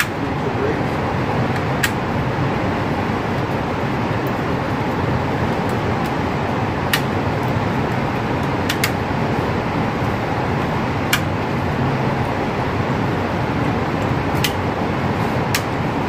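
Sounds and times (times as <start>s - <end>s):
ventilation rushing: 0.0s - 16.0s.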